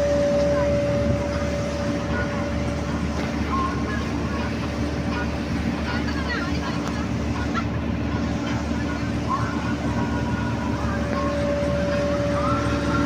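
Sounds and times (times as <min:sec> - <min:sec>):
higher steady tone: 0:00.0 - 0:07.2, 0:08.2 - 0:13.0
boat engine humming: 0:00.0 - 0:13.0.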